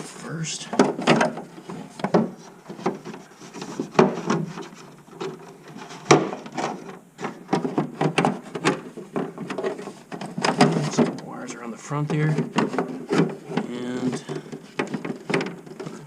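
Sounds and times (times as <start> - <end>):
battery box knocking and scraping: 0.7 - 11.2, 12.0 - 16.0.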